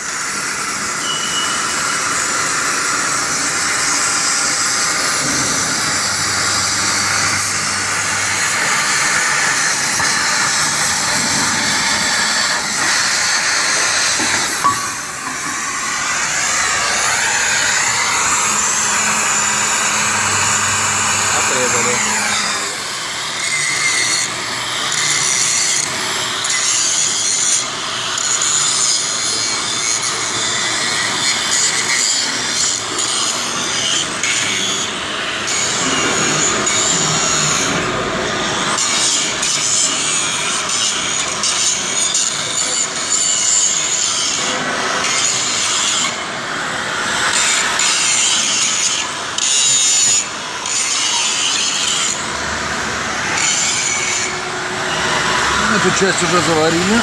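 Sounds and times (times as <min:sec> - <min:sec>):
harsh hissing metalwork on steel: 0:00.0 - 0:57.0.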